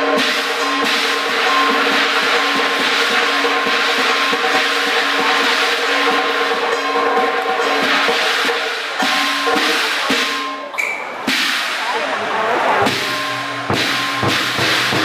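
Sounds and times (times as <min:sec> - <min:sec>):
gongs cymbals and drum playing: 0:00.0 - 0:15.0.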